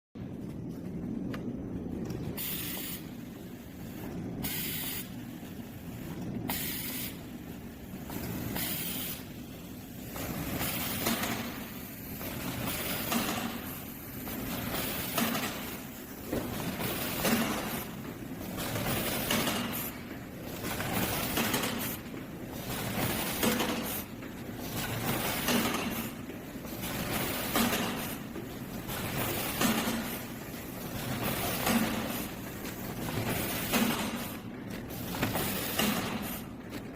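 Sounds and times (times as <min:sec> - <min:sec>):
packing machine rumbling: 0:07.2 - 0:36.9.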